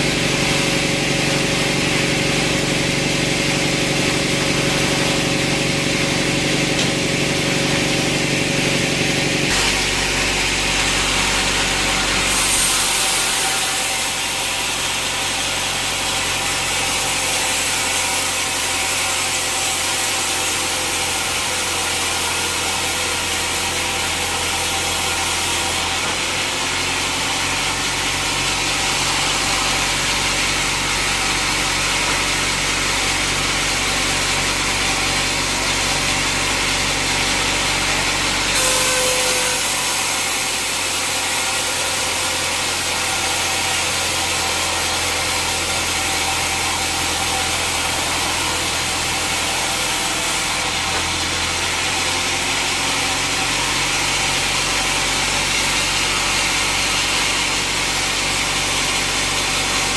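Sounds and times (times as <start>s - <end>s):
sawmill saw cutting wood: 0.0s - 59.9s.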